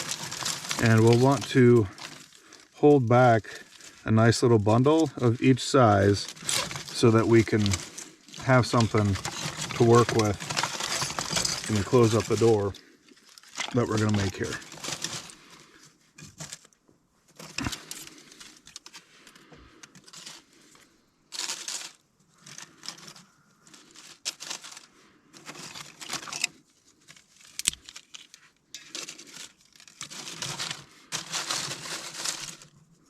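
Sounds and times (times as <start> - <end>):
twigs rustling and crackling: 0.0 - 33.0.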